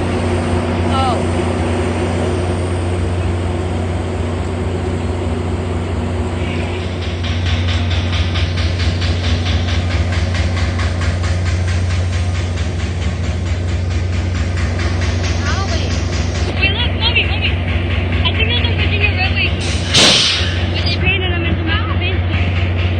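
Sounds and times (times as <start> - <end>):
freight train rumble: 0.0 - 22.9
wheels clattering over rail joints: 0.0 - 22.9.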